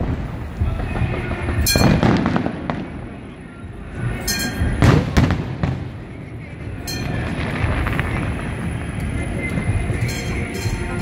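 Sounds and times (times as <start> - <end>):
continuous rumbling: 0.0 - 11.0
fireworks bangs: 0.0 - 11.0.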